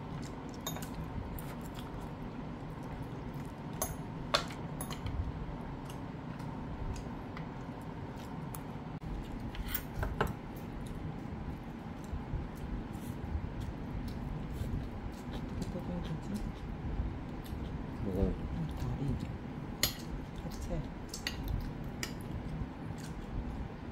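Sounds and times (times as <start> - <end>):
faint hum: 0.0 - 23.9.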